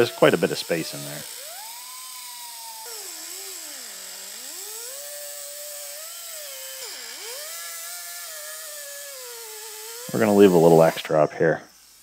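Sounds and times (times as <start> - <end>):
die grinder cutting metal: 0.0 - 12.0
steady hiss: 0.0 - 12.0.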